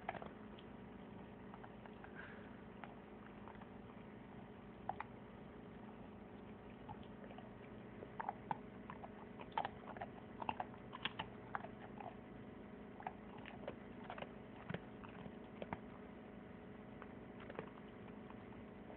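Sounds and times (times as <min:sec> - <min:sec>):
faint steady hum: 0:00.0 - 0:18.9
pet gnawing at a treat: 0:00.0 - 0:18.9.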